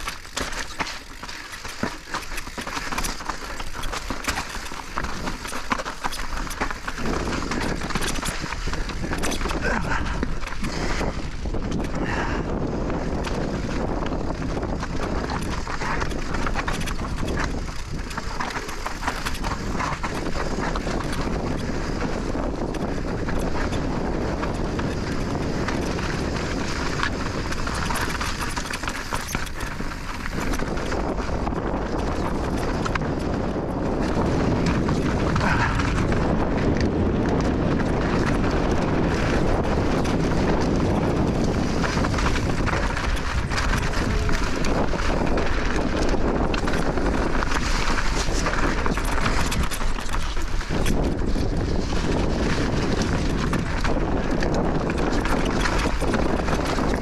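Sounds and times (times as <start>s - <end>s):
bike clattering over rock: 0.0s - 12.3s, 13.2s - 57.0s
bike tyres crunching on rocks: 0.0s - 57.0s
wind on microphone: 2.4s - 57.0s.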